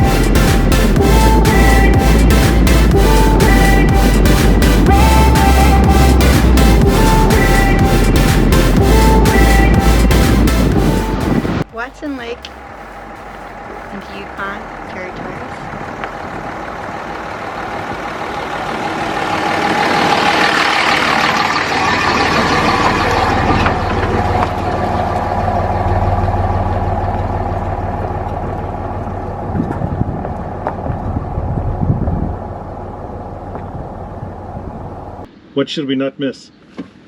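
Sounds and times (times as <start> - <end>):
truck engine and tyre noise: 0.0 - 35.5.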